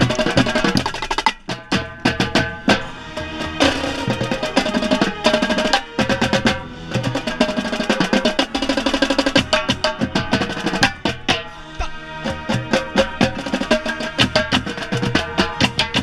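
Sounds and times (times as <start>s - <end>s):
tenor drums rolling: 0.0s - 16.0s
sustained brass chords: 2.0s - 16.0s.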